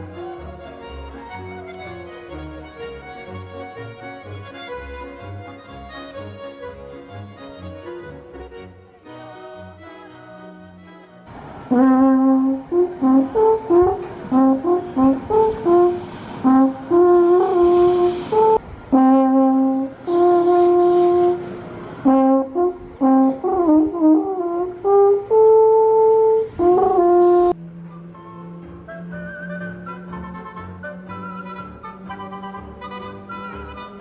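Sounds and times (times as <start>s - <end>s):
solo brass instrument melody: 0.0s - 34.0s.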